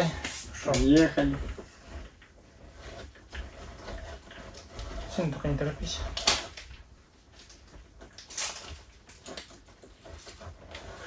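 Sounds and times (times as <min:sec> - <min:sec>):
rustling scrape: 0:00.0 - 0:11.0.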